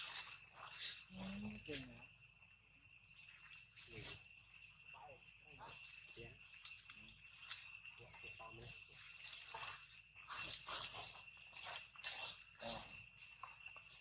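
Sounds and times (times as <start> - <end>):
rustling of leaves: 0.0 - 2.1, 3.0 - 14.0
high-pitched insect chorus: 0.0 - 14.0.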